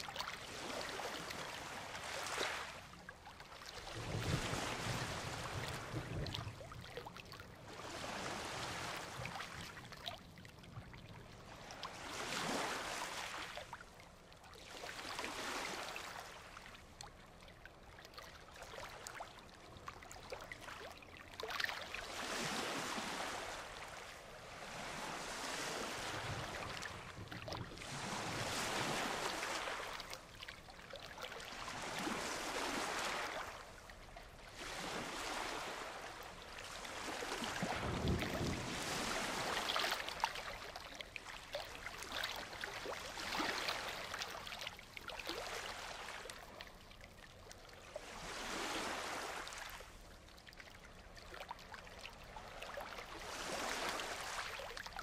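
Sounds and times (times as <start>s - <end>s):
waves breaking on beach: 0.0s - 13.9s, 14.6s - 16.8s, 20.0s - 46.8s, 47.8s - 50.3s, 51.5s - 55.0s.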